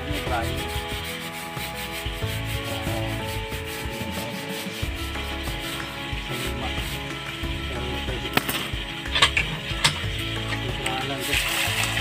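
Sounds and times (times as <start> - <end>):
brush scrubbing metal mesh: 0.0 - 12.0.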